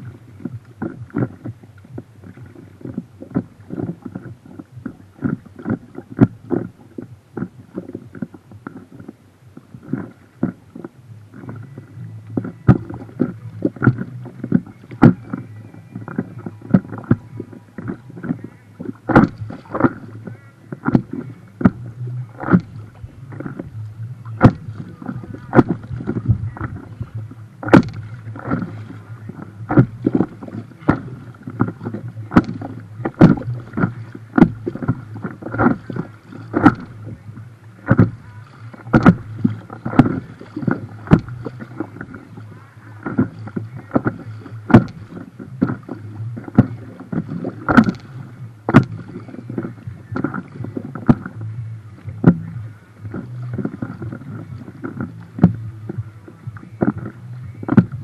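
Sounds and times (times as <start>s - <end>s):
water slapping boat hull: 0.0s - 58.0s.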